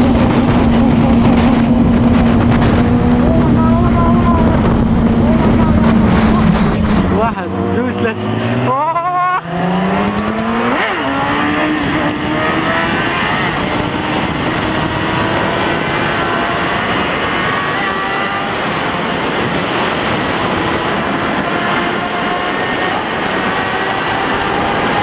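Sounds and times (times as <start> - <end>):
gear change: 0.0 - 25.0
heavy rushing noise: 0.0 - 25.0
motorcycle engine accelerating hard: 0.0 - 25.0.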